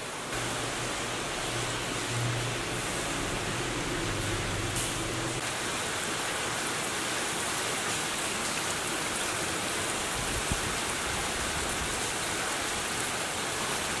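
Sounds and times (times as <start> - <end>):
rain on grass and puddles: 0.0 - 14.0.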